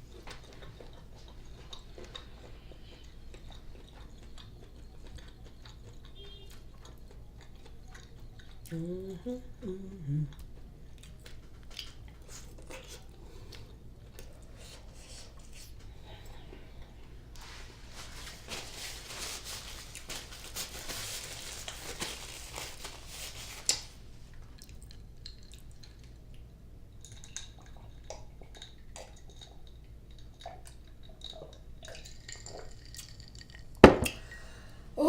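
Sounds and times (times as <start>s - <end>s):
close-up eating sounds: 0.0s - 35.0s.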